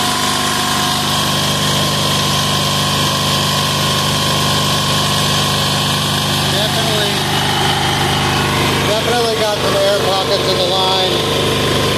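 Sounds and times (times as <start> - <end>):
diesel engine running: 0.0 - 11.9.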